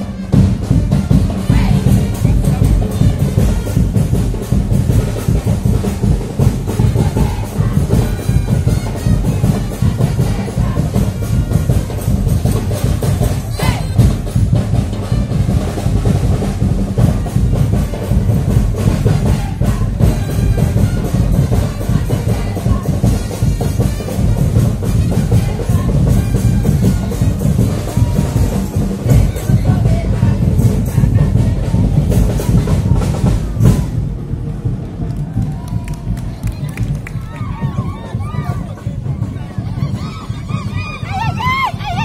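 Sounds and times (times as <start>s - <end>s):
carnival parade drumming: 0.0s - 42.0s
heavy bass drum: 0.0s - 42.0s.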